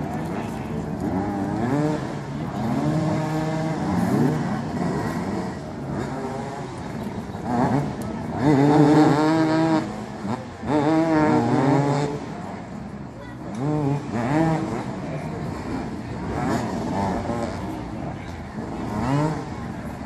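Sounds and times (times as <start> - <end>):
motorcycles revving: 0.0 - 20.0.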